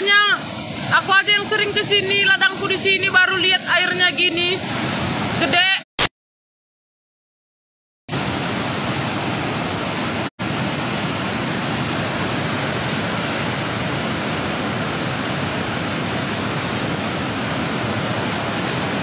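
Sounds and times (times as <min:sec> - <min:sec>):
floodwater rushing over weir: 0:00.0 - 0:05.6, 0:08.1 - 0:19.0.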